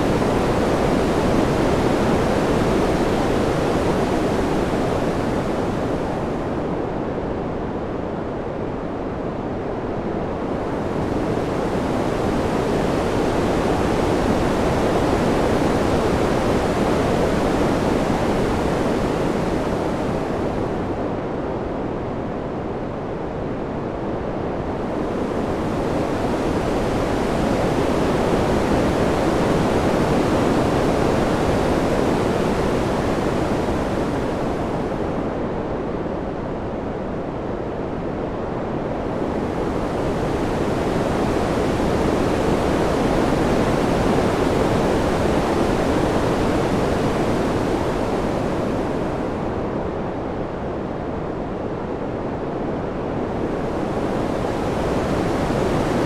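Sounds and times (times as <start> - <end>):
wind rushing in gusts: 0.0 - 56.0.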